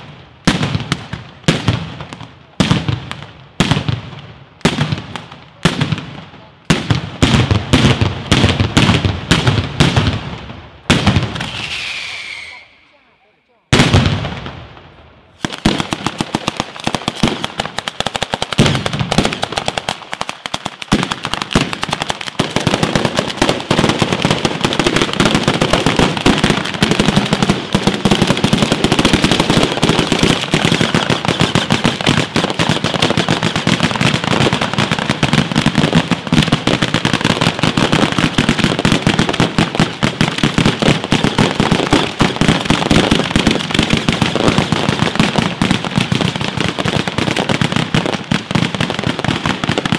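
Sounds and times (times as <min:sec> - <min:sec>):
firecrackers crackling rapidly: 0:00.0 - 0:13.0, 0:15.3 - 0:49.9.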